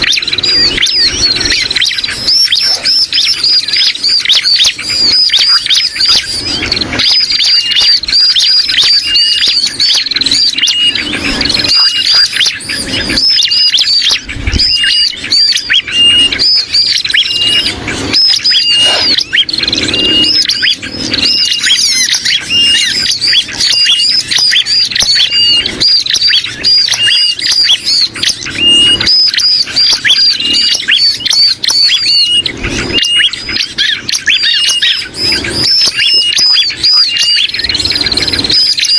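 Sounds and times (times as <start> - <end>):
birds' alarm calls: 0.0 - 38.9
dense bird calls: 0.0 - 38.9.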